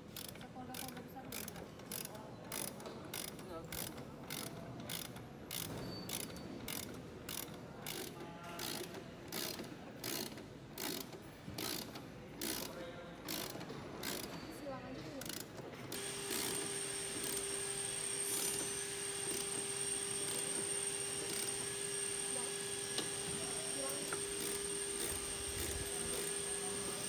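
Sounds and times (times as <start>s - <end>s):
ratchet wrench clicking: 0.1s - 14.4s, 15.2s - 21.8s, 23.9s - 26.5s.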